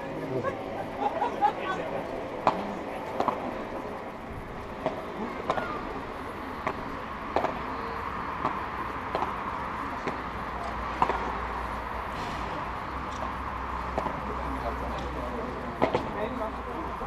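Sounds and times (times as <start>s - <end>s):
murmur of spectators: 0.0s - 17.0s.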